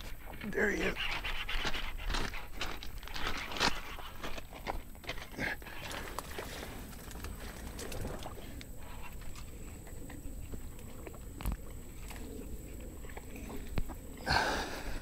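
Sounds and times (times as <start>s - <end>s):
branches and leaves rustling: 0.3s - 15.0s.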